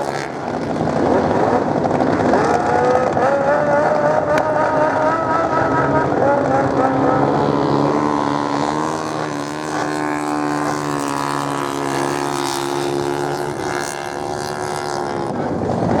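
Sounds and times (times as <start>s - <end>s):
racing motorcycle engines droning: 0.0s - 16.0s.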